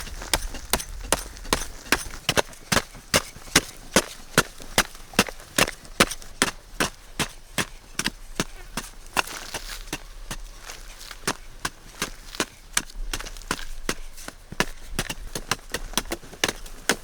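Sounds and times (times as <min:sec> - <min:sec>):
blade chopping wood: 0:00.0 - 0:17.0.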